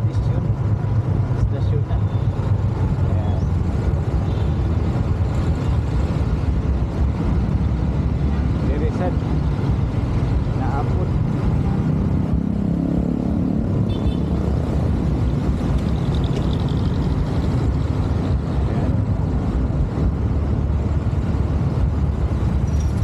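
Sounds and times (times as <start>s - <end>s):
motorcycle engine drone: 2.1s - 23.0s.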